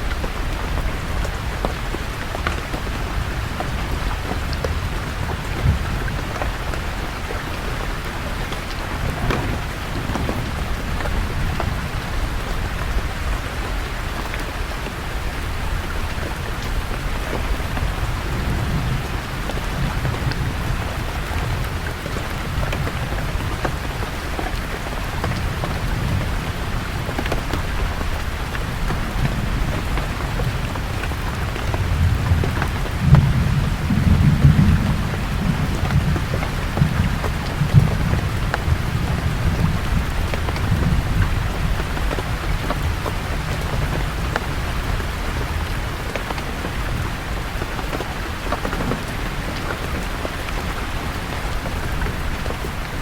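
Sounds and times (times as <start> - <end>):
rain falling on leaves: 0.0 - 53.0
low roll of thunder: 0.1 - 14.6, 15.5 - 45.7.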